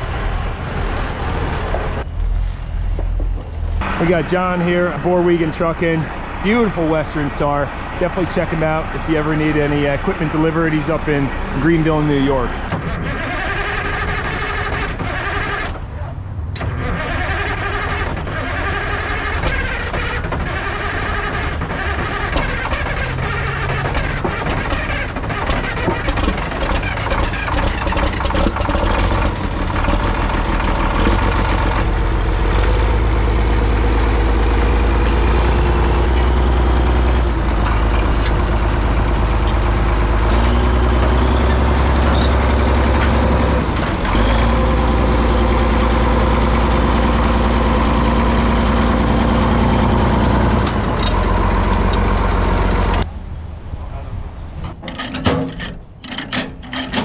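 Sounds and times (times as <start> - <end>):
heavy diesel engine running: 0.0 - 53.2.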